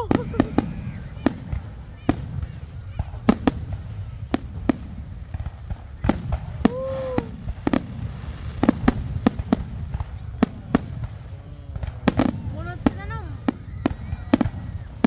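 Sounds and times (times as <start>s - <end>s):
fireworks exploding: 0.0s - 15.0s.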